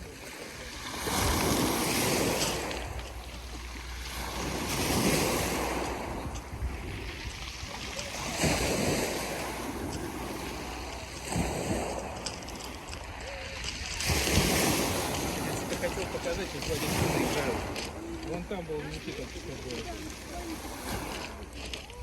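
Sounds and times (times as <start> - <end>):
waves washing up pebble beach: 0.0 - 22.0.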